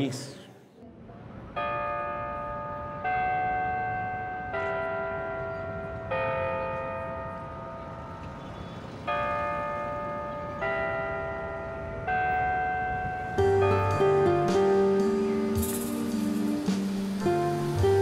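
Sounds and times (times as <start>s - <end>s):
bells struck and ringing: 1.6s - 16.6s.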